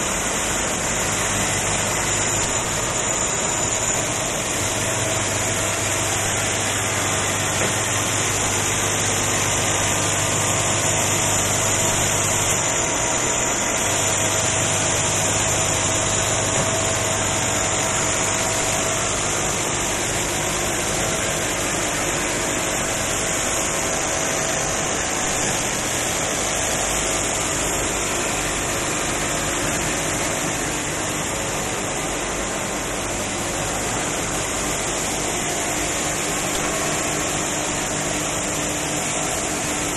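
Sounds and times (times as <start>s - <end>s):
factory machinery drone: 0.0s - 39.9s.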